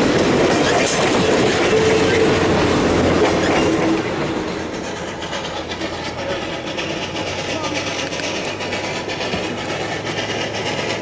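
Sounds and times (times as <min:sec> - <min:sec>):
train wheels clacking over rails: 0:00.0 - 0:11.0.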